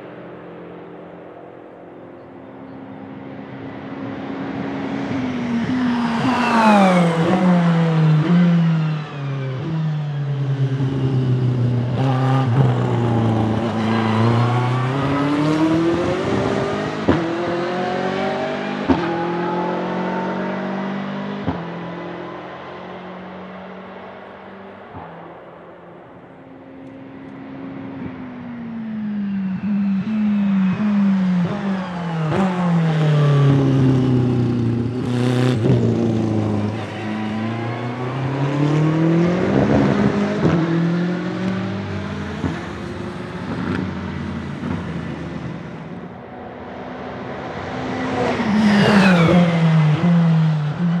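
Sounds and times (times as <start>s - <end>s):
race car passing at speed: 0.0s - 51.0s
race car engine downshifting: 2.2s - 51.0s.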